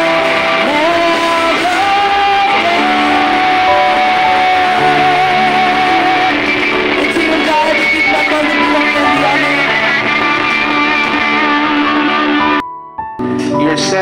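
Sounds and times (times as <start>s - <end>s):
live band playing: 0.0s - 12.6s.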